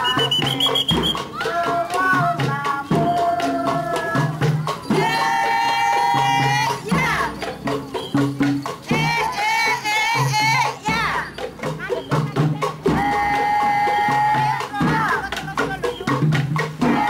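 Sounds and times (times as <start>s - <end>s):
jingling rattling percussion beat: 0.0s - 17.0s.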